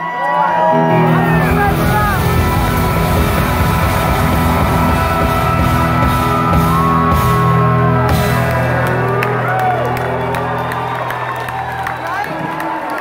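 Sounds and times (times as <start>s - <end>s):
live rock band playing: 0.8s - 12.8s.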